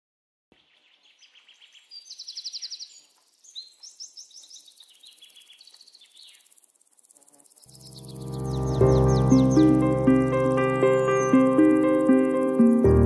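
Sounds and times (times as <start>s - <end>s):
birds chirping and singing: 0.6s - 6.6s, 7.6s - 12.8s
rapid bird trill: 0.6s - 13.0s.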